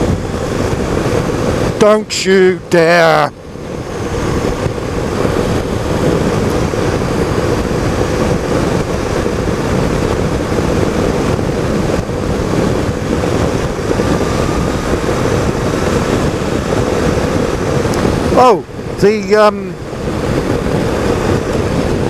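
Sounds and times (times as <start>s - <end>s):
motorcycle engine and tyre drone: 0.0s - 22.0s
wind rushing over microphone: 0.0s - 22.0s.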